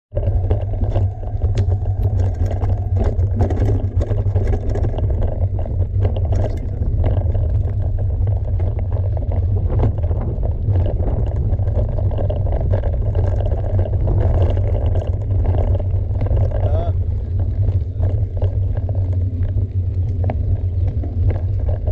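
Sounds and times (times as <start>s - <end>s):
bike clicks and rattles: 0.1s - 21.9s
wind buffeting microphone: 0.1s - 21.9s.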